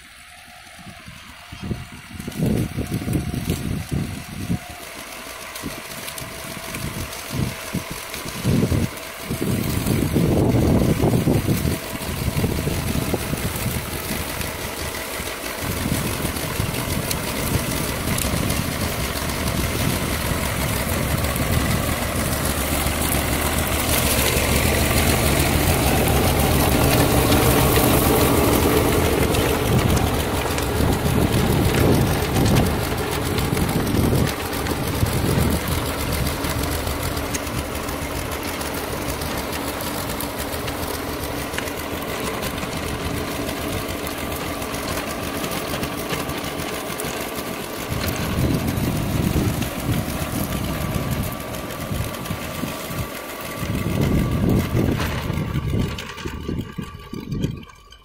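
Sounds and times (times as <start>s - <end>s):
tiller churning soil: 0.0s - 58.0s
tractor engine running: 0.0s - 58.0s.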